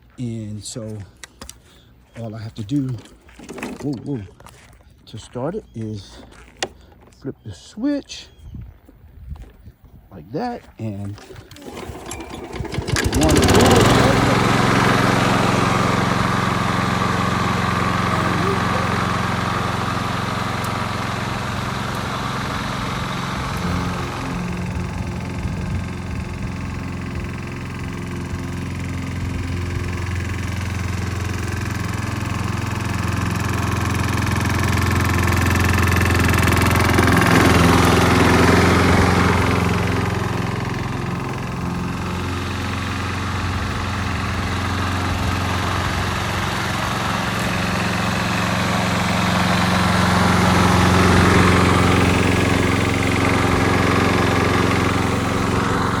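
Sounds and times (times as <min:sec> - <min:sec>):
small lawn mower engine: 0:01.0 - 0:05.3, 0:10.8 - 0:56.0.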